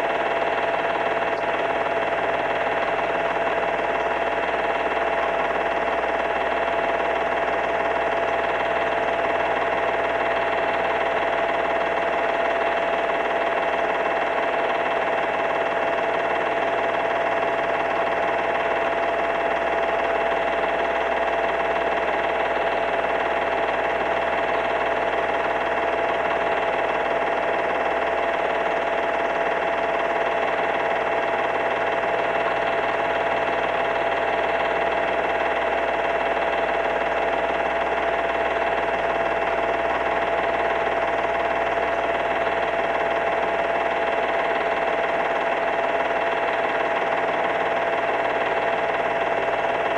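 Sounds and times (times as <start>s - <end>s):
film projector motor whining: 0.0s - 49.9s.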